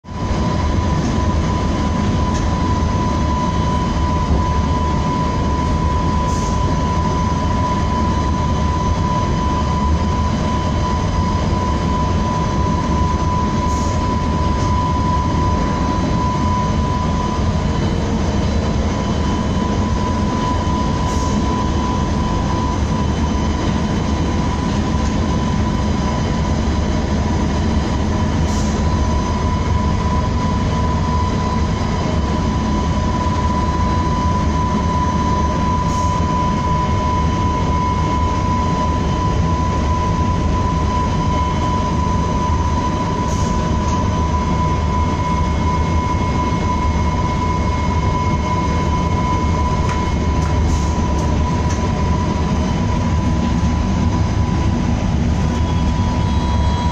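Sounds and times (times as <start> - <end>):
steady high whine: 0.0 - 56.9
train low rumble: 0.0 - 56.9.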